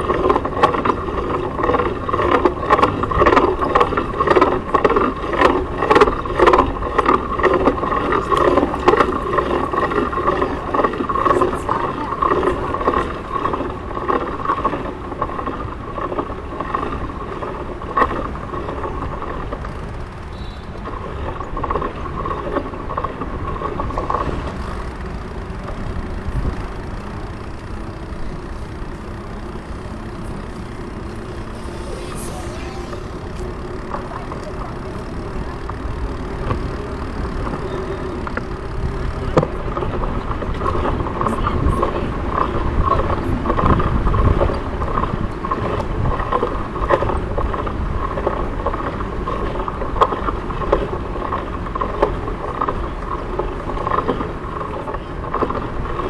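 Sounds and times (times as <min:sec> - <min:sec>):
traffic and road noise: 0:00.0 - 0:56.0.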